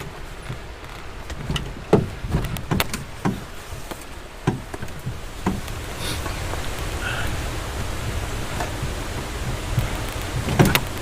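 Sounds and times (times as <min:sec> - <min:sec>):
canoe bumping against trees: 0:00.0 - 0:11.0.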